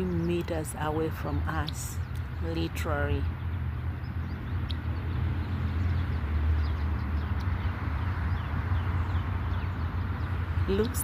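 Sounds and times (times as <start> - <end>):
birds chirping: 0.0 - 11.0
low engine hum: 0.0 - 11.0.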